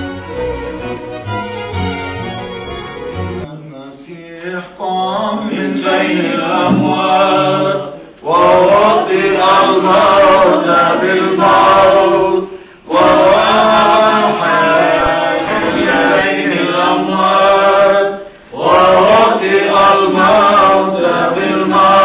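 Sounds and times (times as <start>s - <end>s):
voices singing liturgical chant: 3.5s - 22.0s.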